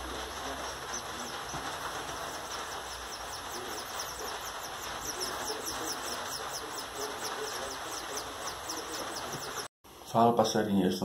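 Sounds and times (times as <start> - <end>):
nestlings peeping: 0.0 - 9.7
steady hiss: 0.0 - 11.0.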